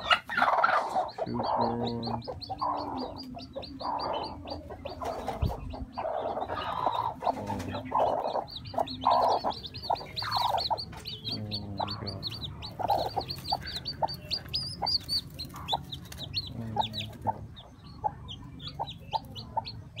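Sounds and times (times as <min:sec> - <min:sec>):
chicks peeping: 0:00.0 - 0:20.0
hen clucking: 0:00.0 - 0:20.0.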